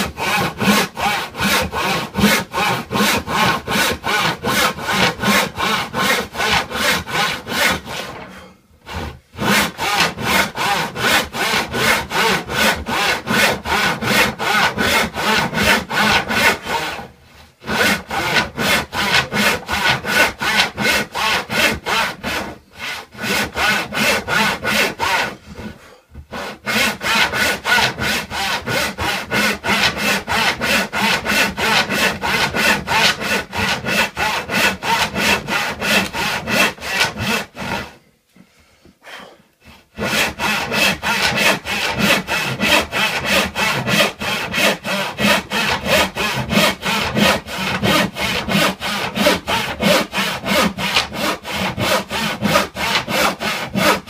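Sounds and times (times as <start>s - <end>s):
hand saw cutting wood: 0.0s - 38.0s, 39.6s - 54.0s.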